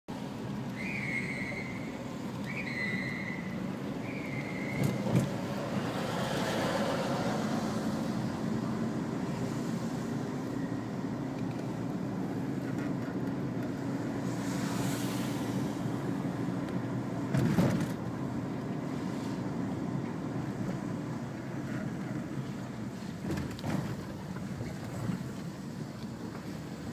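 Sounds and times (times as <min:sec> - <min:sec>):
car engine and tyre rumble: 0:00.1 - 0:26.9.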